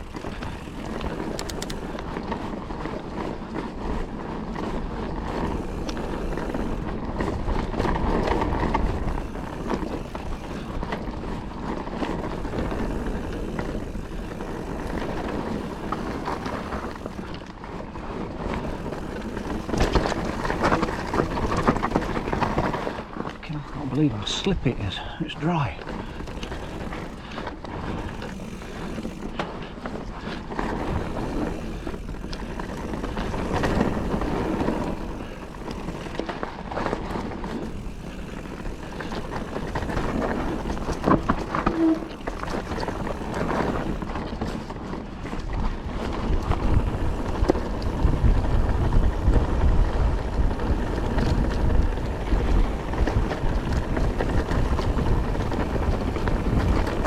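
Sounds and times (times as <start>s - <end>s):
bike frame and chain rattling: 0.0s - 57.0s
bike tyres crunching on dirt: 0.0s - 57.0s
wind buffeting microphone: 0.0s - 57.0s.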